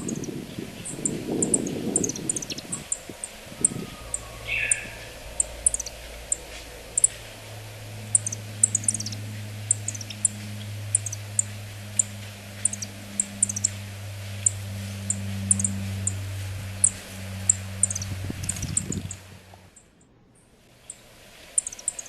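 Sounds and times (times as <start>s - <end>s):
bird high tsip calls: 0.0s - 19.9s, 21.6s - 22.0s
low hum: 0.0s - 22.0s.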